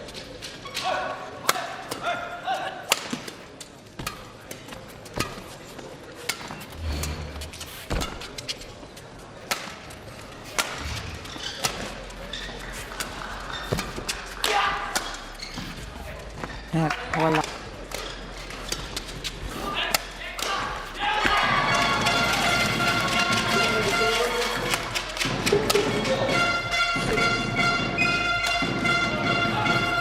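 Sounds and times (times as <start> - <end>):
crowd murmur: 0.0 - 30.0
rackets hitting shuttlecock: 0.3 - 6.7, 7.7 - 30.0
footwork thuds: 4.0 - 30.0.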